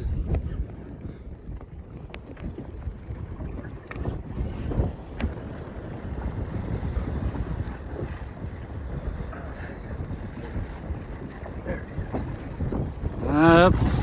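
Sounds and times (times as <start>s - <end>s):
waves washing around boat: 0.0s - 14.0s
wind buffeting microphone: 0.0s - 14.0s.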